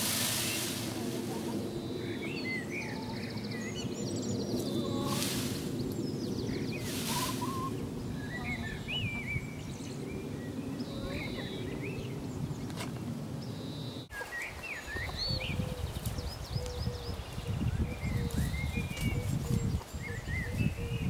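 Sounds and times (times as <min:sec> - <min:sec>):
songbirds chirping and warbling: 0:00.0 - 0:21.0.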